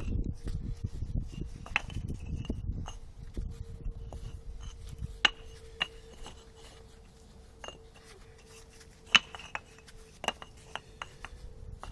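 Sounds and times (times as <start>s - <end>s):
brick pavers clinking: 1.4s - 3.1s, 4.0s - 11.9s.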